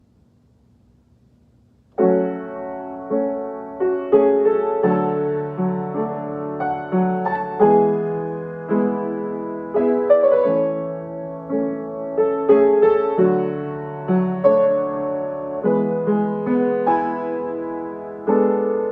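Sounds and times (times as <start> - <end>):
slow solo piano music: 1.9 - 18.9.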